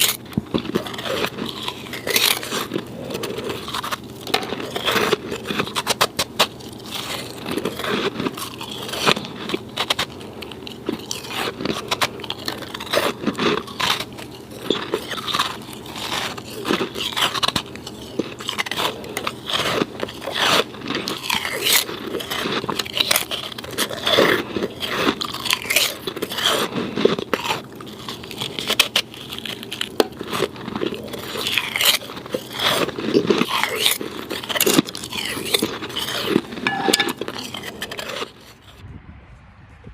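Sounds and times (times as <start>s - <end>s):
snow being chewed: 0.0s - 38.8s.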